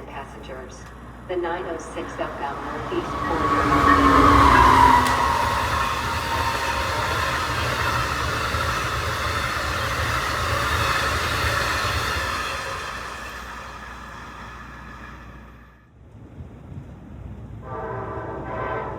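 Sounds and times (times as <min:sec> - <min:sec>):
train passing on rails: 0:00.0 - 0:18.9.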